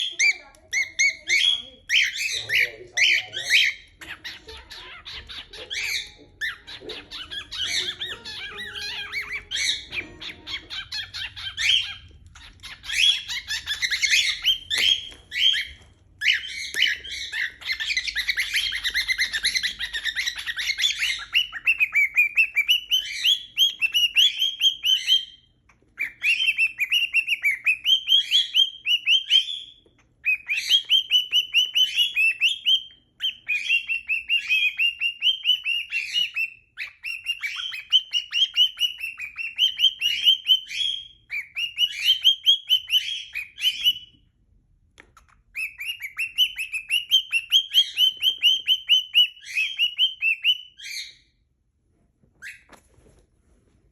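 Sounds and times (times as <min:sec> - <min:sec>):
cockatiels chattering and chirping: 0:00.0 - 0:44.2, 0:44.9 - 0:51.3.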